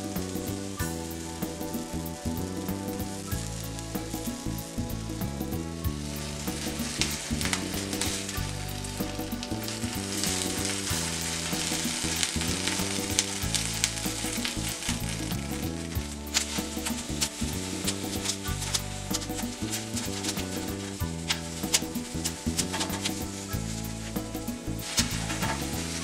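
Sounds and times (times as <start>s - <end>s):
vegetables sizzling and crackling: 0.0s - 26.0s.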